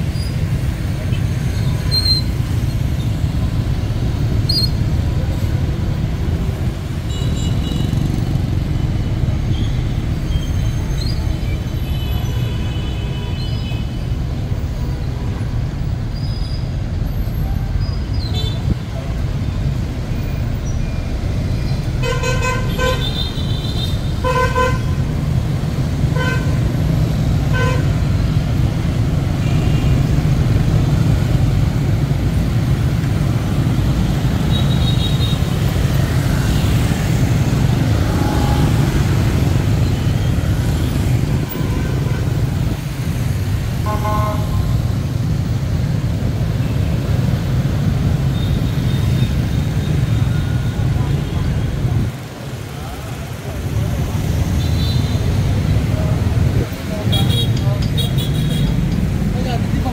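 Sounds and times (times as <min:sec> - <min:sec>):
city traffic rumble: 0:00.0 - 0:59.9.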